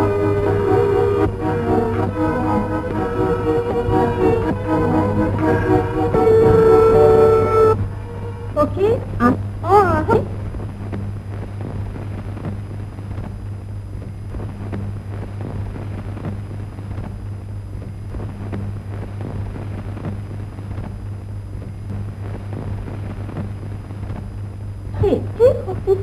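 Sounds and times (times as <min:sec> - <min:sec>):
film crackles and pops: 0:00.0 - 0:07.9, 0:09.1 - 0:26.0
constant hiss: 0:00.0 - 0:26.0
low mains hum: 0:00.0 - 0:26.0.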